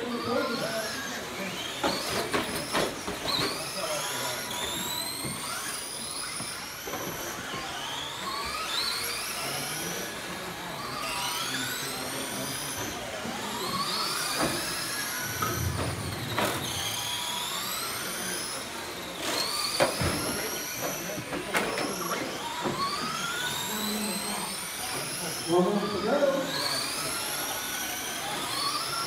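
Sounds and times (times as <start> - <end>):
electric toy car motors whining: 0.0 - 29.0.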